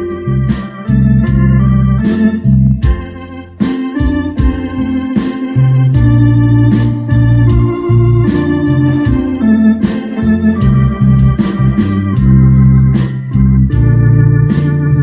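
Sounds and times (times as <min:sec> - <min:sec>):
electronic organ ballad melody: 0:00.0 - 0:15.0
programmed rhythm beat: 0:00.0 - 0:15.0.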